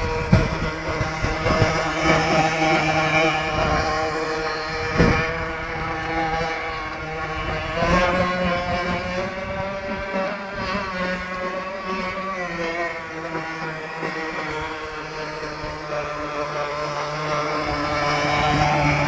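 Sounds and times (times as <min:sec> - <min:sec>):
model speedboat motor buzzing: 0:00.0 - 0:19.0
wind buffeting microphone: 0:00.0 - 0:19.0.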